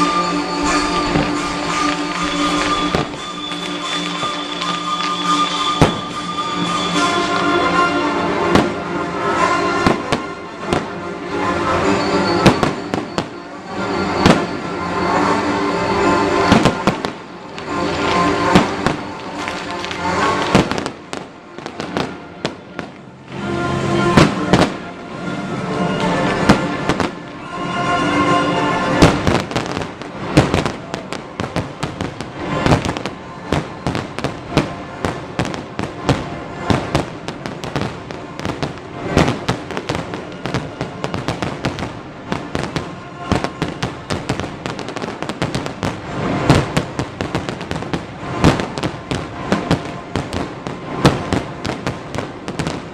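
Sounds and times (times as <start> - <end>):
fireworks bursting and crackling: 0.0 - 52.9
music: 0.0 - 52.9.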